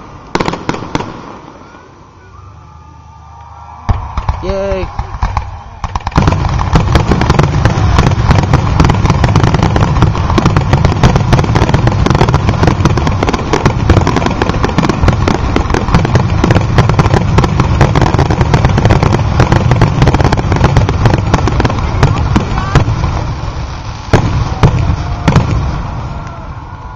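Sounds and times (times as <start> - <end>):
deep fireworks booms: 0.0 - 2.3, 3.7 - 26.9
fireworks bangs and crackling: 0.0 - 2.8, 3.7 - 26.9.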